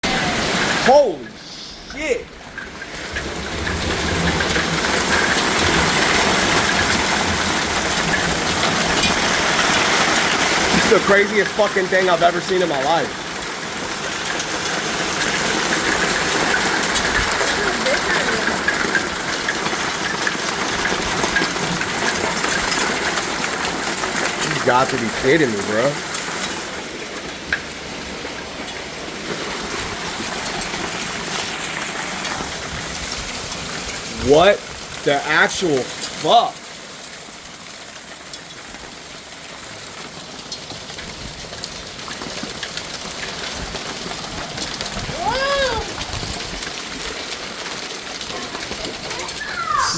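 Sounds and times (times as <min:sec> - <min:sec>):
hailstones pelting down: 0:00.0 - 0:49.9.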